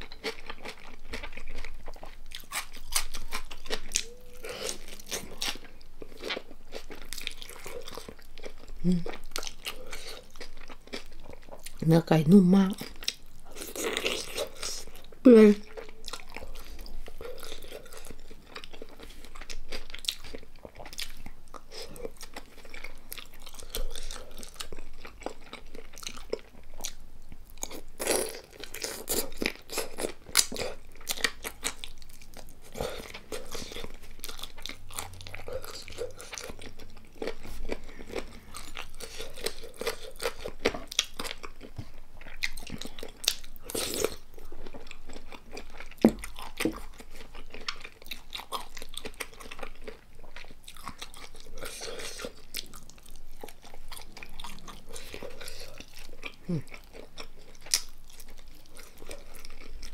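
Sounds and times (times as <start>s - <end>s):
person chewing crisp food: 0.0s - 11.9s, 12.7s - 59.9s.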